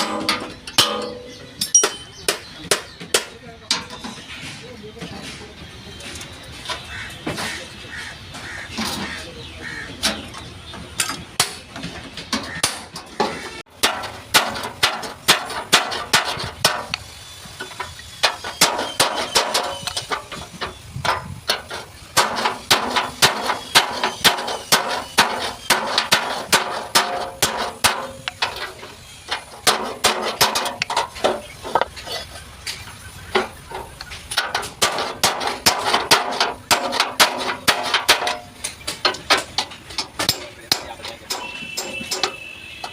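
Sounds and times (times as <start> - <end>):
hammer striking sheet steel: 0.0 - 7.6, 11.0 - 17.0, 17.6 - 31.9, 33.3 - 42.9.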